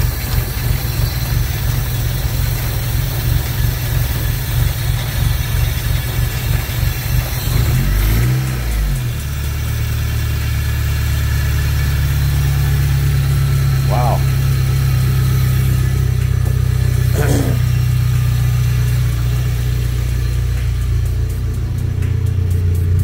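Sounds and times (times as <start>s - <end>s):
car engine idling unevenly: 0.0s - 23.0s
engine revving: 0.0s - 23.0s.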